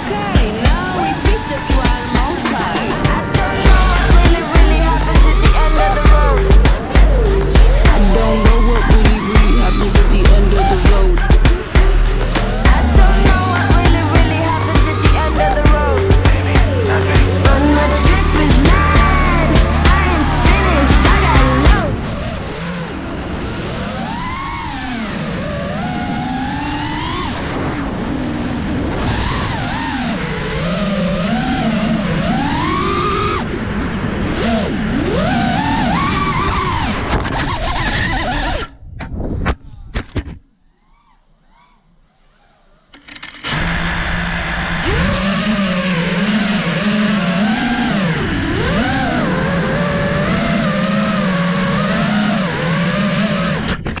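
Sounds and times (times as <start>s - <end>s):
drone motors whining: 0.0s - 38.6s, 42.6s - 54.0s.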